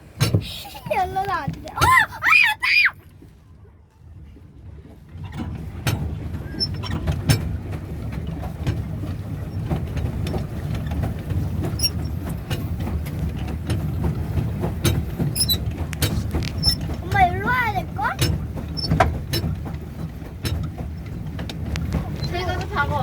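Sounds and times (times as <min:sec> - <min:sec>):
pedal drive low rumble: 0:00.0 - 0:23.0.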